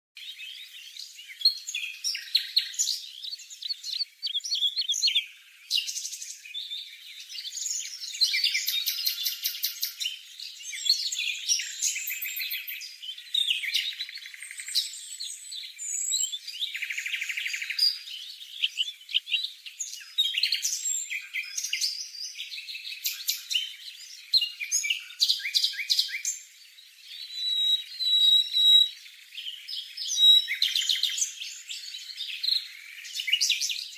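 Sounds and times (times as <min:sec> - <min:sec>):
bird chirping and trilling: 0:00.2 - 0:33.9.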